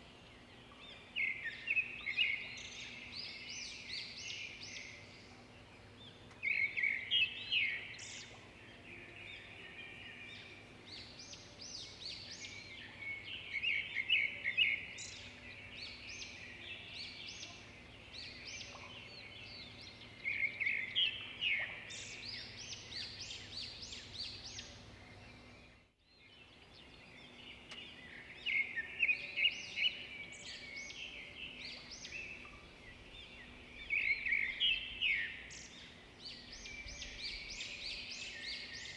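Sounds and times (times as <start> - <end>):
bird-like chirping and twittering: 0.0 - 38.9.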